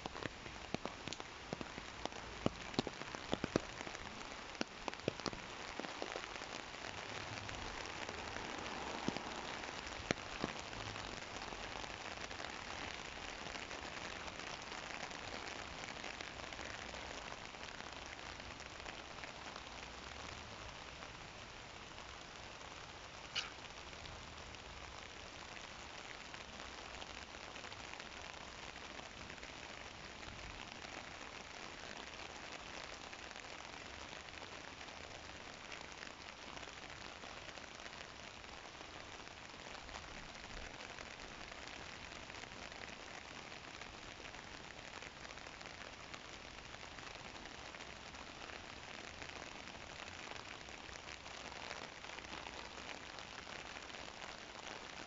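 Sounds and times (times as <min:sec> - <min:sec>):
rain falling on water and paving: 0:00.0 - 0:55.0.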